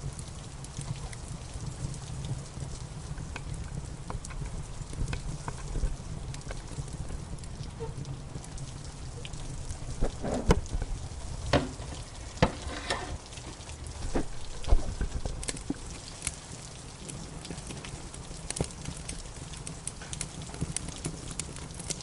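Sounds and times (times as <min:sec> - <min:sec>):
rain: 0:00.0 - 0:22.0
wood fire crackling: 0:00.0 - 0:22.0.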